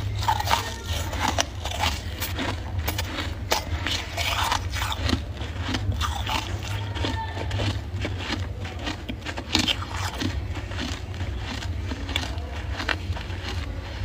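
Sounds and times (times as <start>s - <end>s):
chewing crunchy frost: 0.0s - 14.0s
steady low hum: 0.0s - 14.0s.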